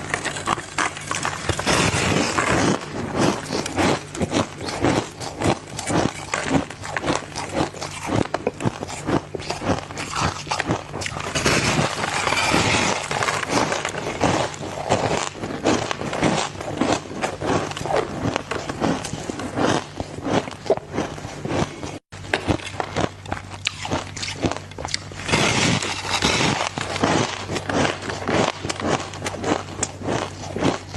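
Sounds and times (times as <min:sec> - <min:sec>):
ice cubes crunching: 0:00.0 - 0:30.9.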